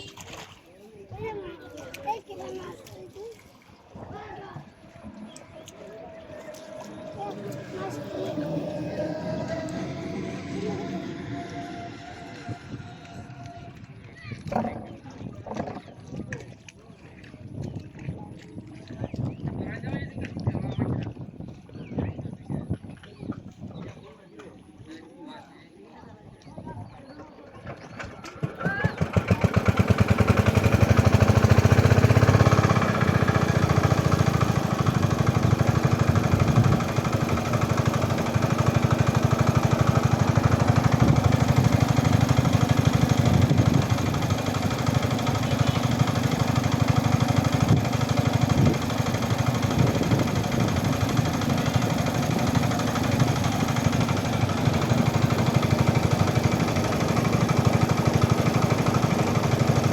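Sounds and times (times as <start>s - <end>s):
small engine chugging: 1.2s - 16.6s, 26.5s - 59.9s.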